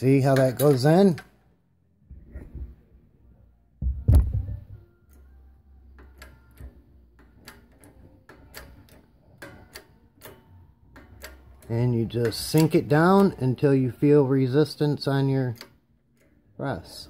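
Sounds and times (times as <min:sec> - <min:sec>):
bearing clicking and ticking: 0:00.0 - 0:01.4, 0:04.0 - 0:17.0.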